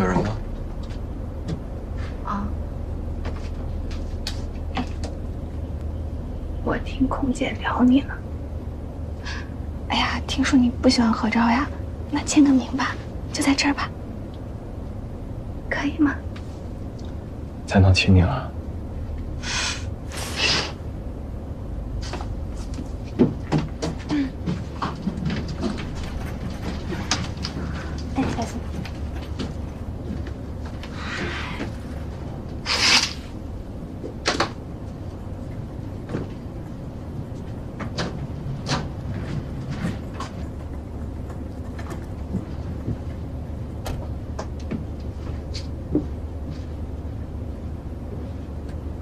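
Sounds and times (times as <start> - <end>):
airliner cabin hum: 0.0 - 49.0.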